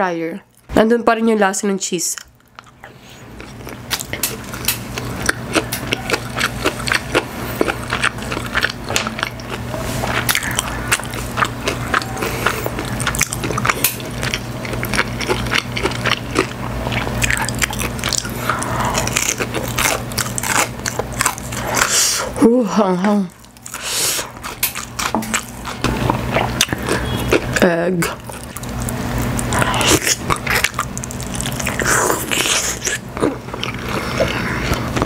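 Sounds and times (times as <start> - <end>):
steady low hum: 0.0 - 35.0
person chewing and crunching food: 2.2 - 35.0.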